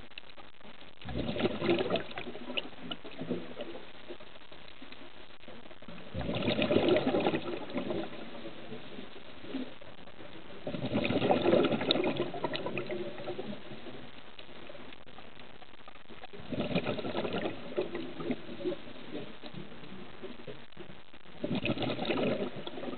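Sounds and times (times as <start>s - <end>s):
faint steady hiss: 0.0s - 22.9s
underwater bubbles gurgling: 0.0s - 22.9s.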